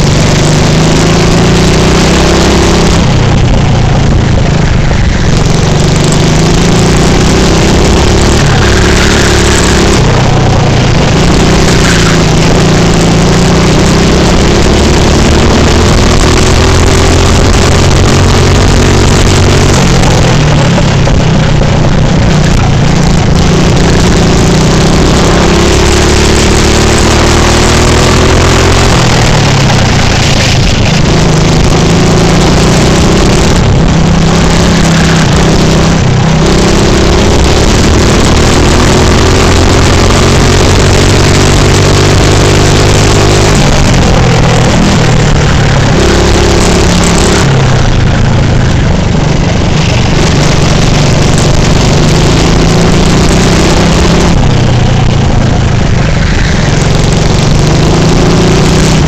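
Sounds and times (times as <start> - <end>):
go-kart engine at full throttle: 0.0 - 59.0.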